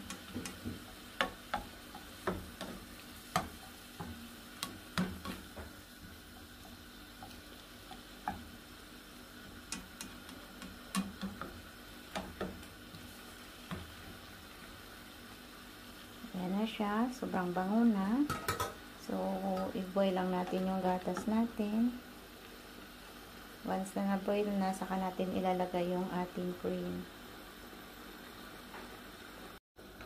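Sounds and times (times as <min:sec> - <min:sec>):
faint sizzle: 0:00.0 - 0:30.0.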